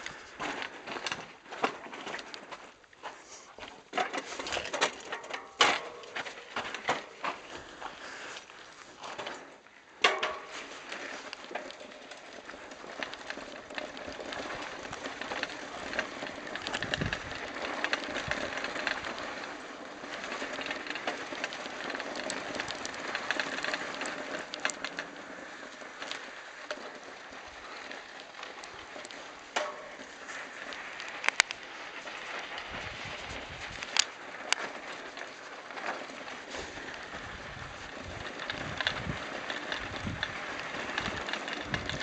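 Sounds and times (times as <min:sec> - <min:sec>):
bike rattling and clicking: 0:00.0 - 0:42.0
bike tyres crunching on gravel: 0:00.0 - 0:42.0.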